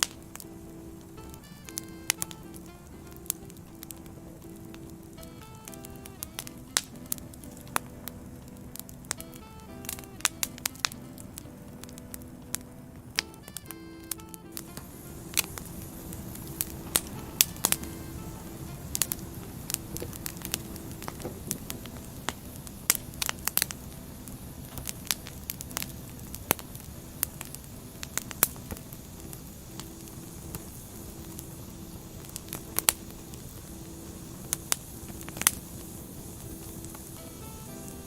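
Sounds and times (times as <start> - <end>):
fire hissing: 0.0 - 38.0
wood fire crackling and popping: 0.0 - 38.0.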